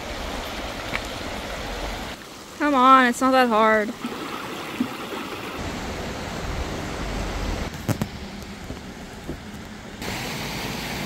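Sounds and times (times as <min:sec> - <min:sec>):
creek rushing: 0:00.0 - 0:09.2.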